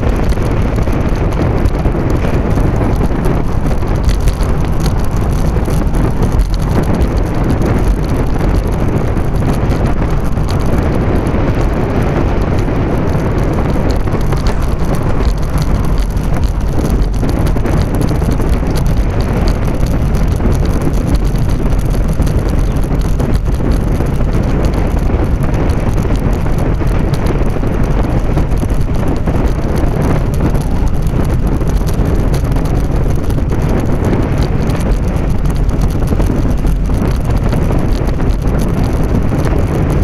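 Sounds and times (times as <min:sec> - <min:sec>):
tyres rolling on asphalt: 0:00.0 - 0:40.0
wind buffeting microphone: 0:00.0 - 0:40.0.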